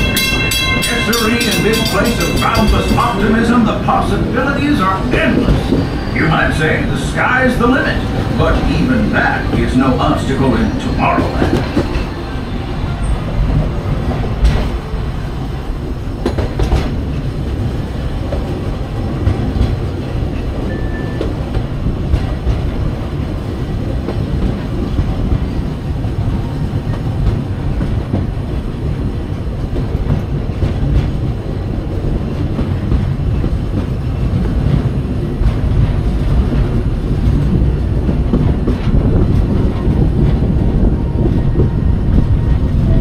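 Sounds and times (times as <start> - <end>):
rail clicks: 0.0 - 43.0
train wheels rumbling on rails: 0.0 - 43.0.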